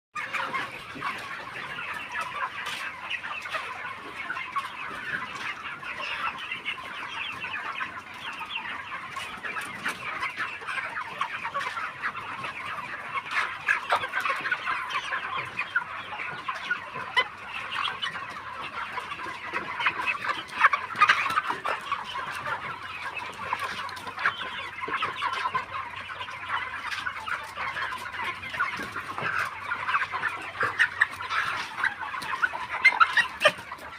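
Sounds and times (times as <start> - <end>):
chickens chirping and clucking: 0.2 - 33.9.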